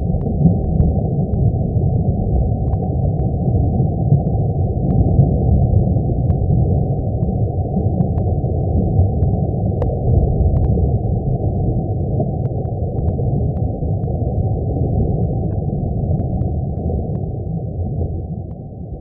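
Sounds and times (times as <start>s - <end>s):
deep muffled rumbling roar: 0.0s - 19.0s
faint crackles: 0.0s - 19.0s.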